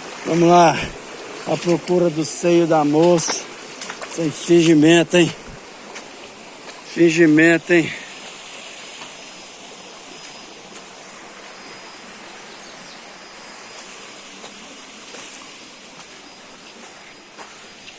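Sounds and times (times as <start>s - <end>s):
stream water rushing: 0.0s - 17.9s.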